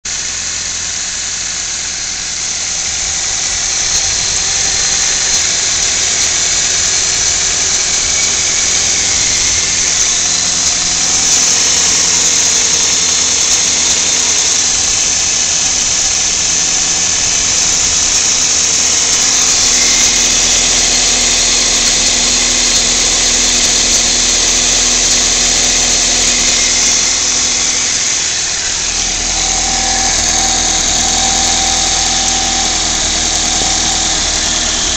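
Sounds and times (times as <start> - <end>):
high hiss: 0.1 - 34.9
car engine running: 2.8 - 34.9.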